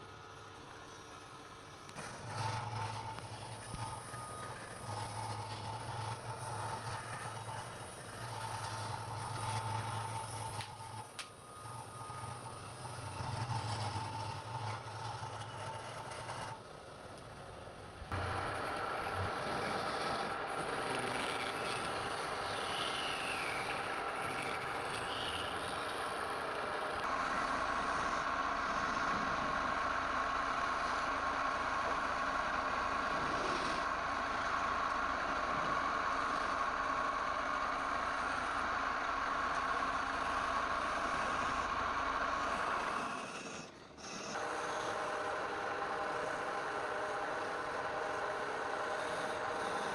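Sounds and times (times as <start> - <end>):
wood lathe running: 0.0 - 17.1, 18.0 - 49.9.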